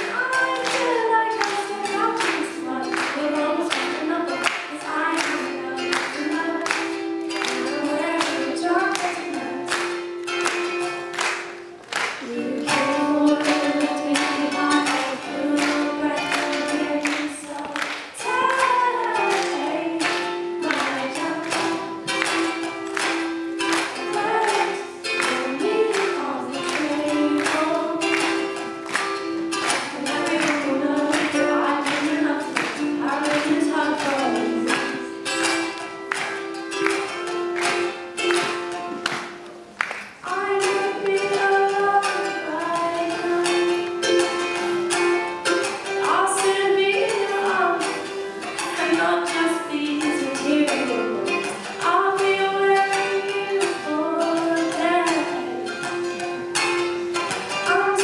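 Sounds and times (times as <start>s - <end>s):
woman singing: 0.0s - 10.2s, 12.1s - 23.1s, 23.7s - 35.3s, 40.2s - 45.1s, 45.8s - 56.1s, 57.5s - 58.0s
ukulele strumming: 0.0s - 58.0s.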